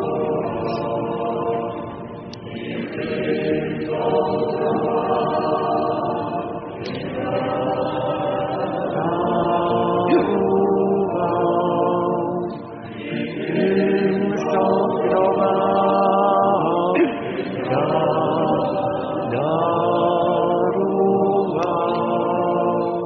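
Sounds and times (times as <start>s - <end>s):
voices chanting together: 0.0s - 23.0s.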